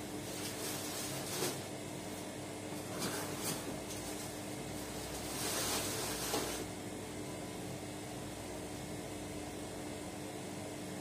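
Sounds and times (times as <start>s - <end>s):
washing machine hum: 0.0s - 11.0s.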